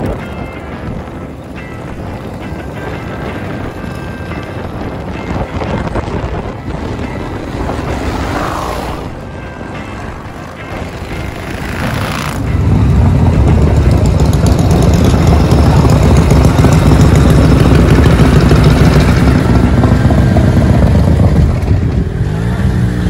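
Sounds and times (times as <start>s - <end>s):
motorcycle engines rumbling: 0.0s - 23.0s.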